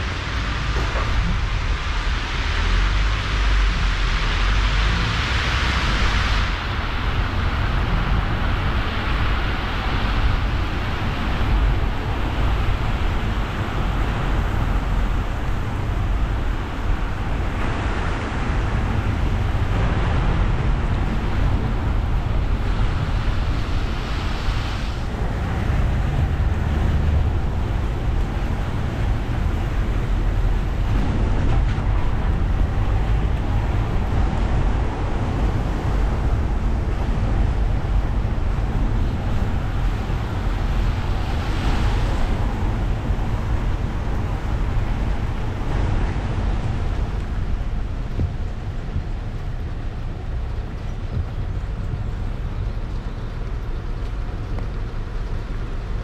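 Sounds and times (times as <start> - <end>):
road and engine rumble: 0.0 - 56.0
tyres hissing on wet road: 0.0 - 56.0.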